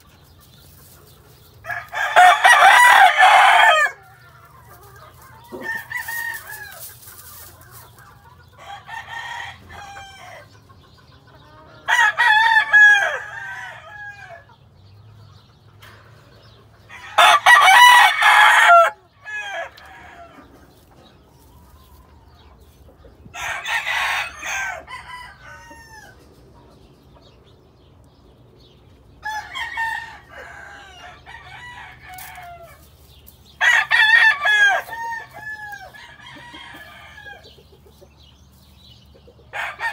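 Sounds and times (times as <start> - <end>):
roosters crowing: 0.8 - 14.6, 15.9 - 22.4, 23.2 - 26.5, 28.7 - 38.3, 39.2 - 39.9.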